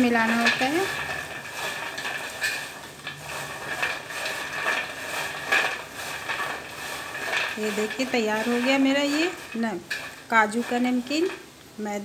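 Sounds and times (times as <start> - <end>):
snacks clattering in metal platter: 0.0 - 11.5.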